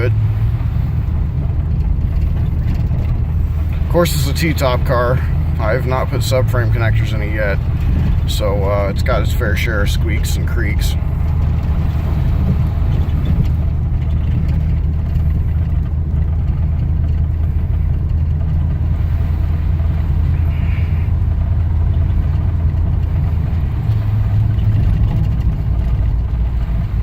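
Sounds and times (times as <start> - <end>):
car exhaust drone from inside cabin: 0.0 - 27.0.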